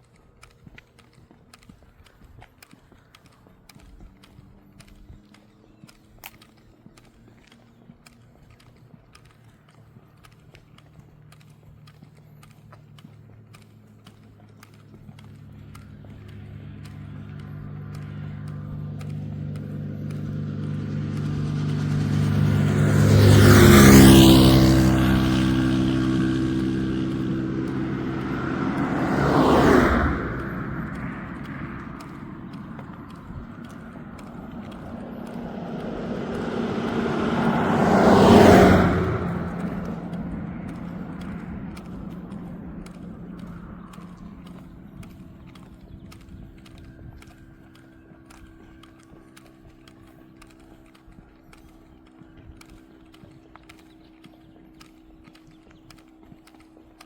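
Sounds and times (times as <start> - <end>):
footsteps clicking: 0.0 - 57.0
vehicle engine passing by: 0.0 - 57.0
second vehicle passing quickly: 0.4 - 57.0.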